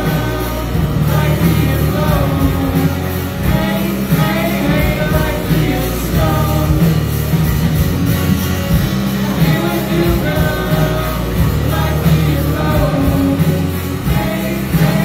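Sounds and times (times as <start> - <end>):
lead singer singing: 0.0 - 7.8, 8.7 - 15.0
bass guitar: 0.0 - 15.0
drums: 0.0 - 15.0
electric guitar: 0.0 - 15.0
keyboard: 0.0 - 15.0.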